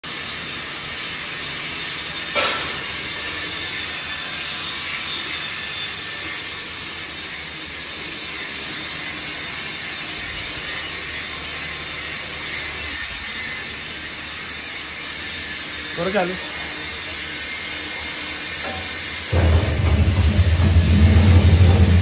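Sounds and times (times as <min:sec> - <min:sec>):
workshop machinery running: 0:00.0 - 0:22.0.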